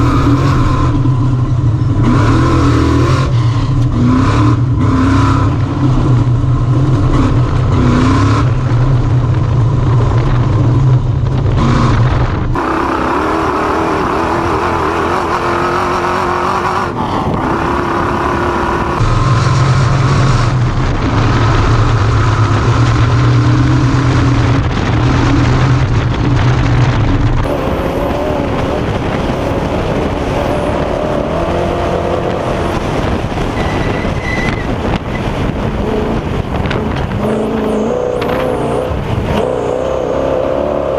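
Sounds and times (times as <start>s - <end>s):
engine running at high revs: 0.0s - 40.9s.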